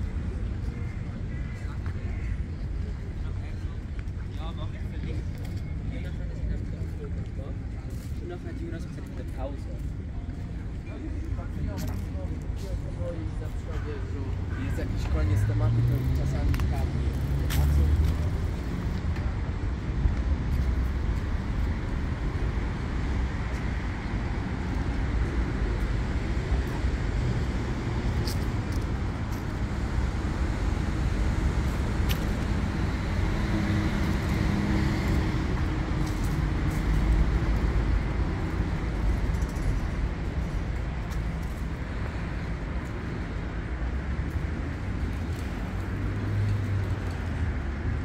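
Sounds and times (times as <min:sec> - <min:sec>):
rumble of passing cars: 0:00.0 - 0:48.0.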